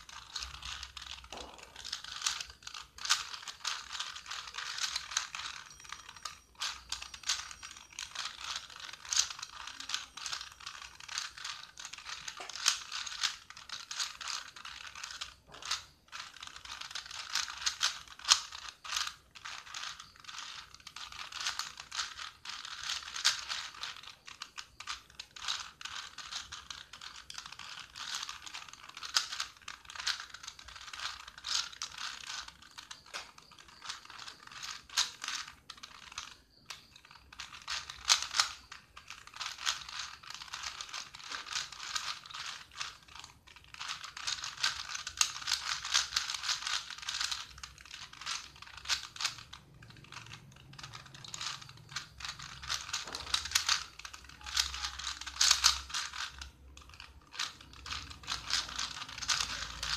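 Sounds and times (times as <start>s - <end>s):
puzzle cube clicking as turned: 0.0s - 59.9s.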